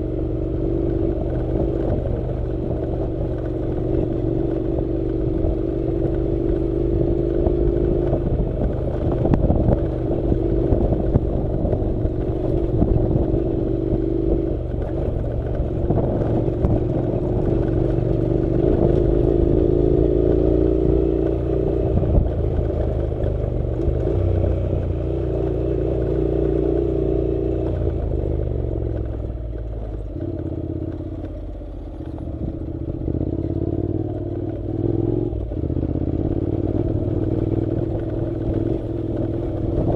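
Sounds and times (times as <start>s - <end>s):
motorcycle engine running: 0.0s - 39.9s
clatter and knocks from rough ride: 0.9s - 39.9s.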